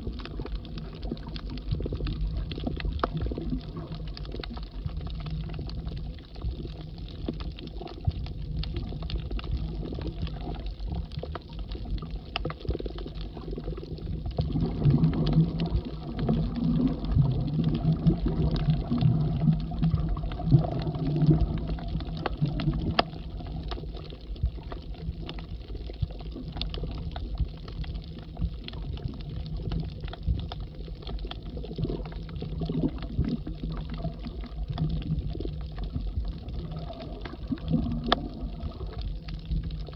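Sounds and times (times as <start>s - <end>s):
faint underwater clicks: 0.0s - 39.9s
low rumble of water: 0.0s - 39.9s.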